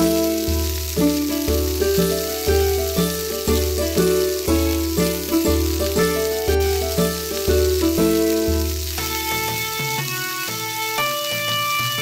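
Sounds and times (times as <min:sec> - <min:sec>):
background music with steady beat: 0:00.0 - 0:12.0
oil sizzling in a frying pan: 0:00.0 - 0:12.0.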